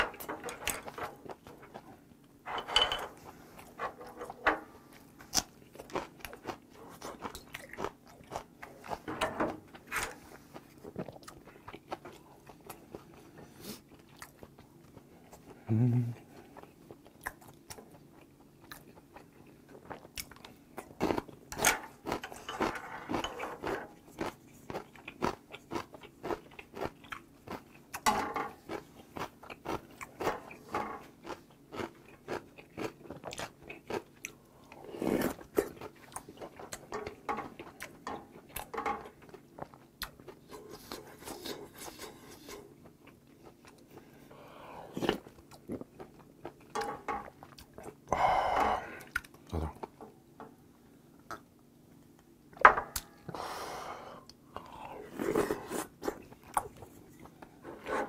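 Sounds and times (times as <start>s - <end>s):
chewing and crunching food: 0.0s - 2.4s, 3.1s - 53.2s, 54.2s - 58.0s.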